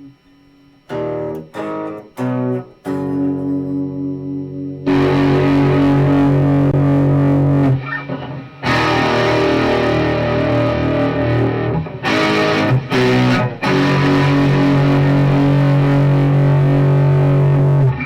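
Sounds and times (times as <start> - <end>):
electric guitar sustained chords: 0.0 - 18.0.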